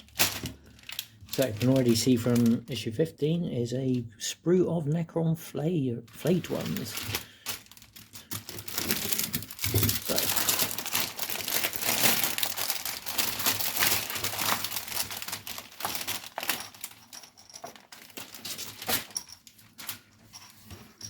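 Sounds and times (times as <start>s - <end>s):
packaging crinkling and rustling: 0.0s - 2.9s, 6.1s - 20.8s.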